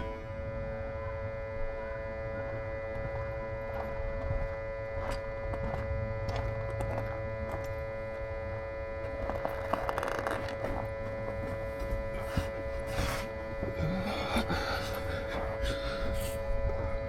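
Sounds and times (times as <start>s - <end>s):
smoke machine electric hum: 0.0s - 17.0s.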